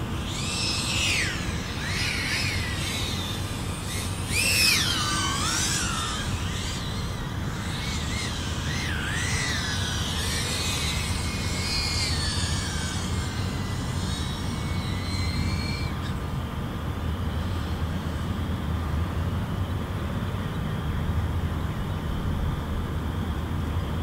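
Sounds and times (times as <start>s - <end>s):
drone motors whining: 0.0s - 23.8s.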